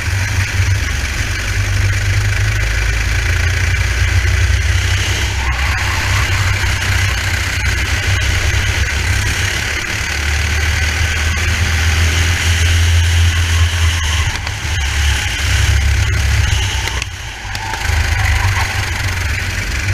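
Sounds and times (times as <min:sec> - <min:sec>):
racing kart engine at speed: 0:00.0 - 0:19.9
steady rush of wind noise: 0:03.9 - 0:19.9.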